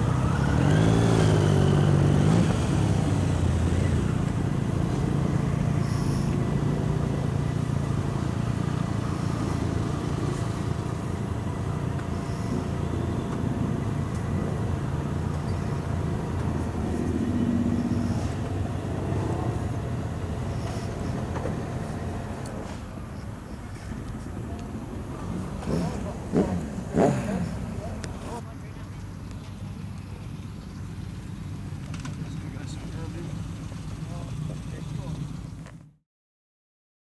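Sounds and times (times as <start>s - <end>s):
motorcycles idling: 0.0s - 35.9s.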